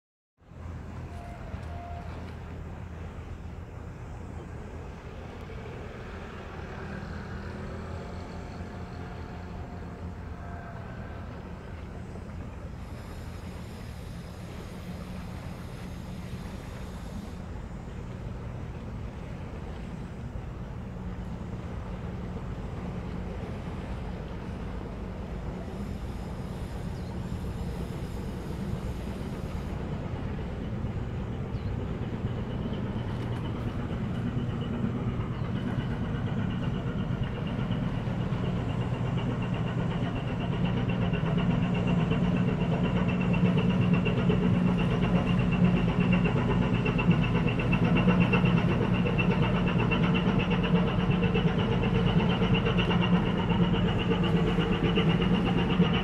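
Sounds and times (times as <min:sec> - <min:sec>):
ship engine drone: 0:00.4 - 0:56.0
thin high whine: 0:00.9 - 0:56.0.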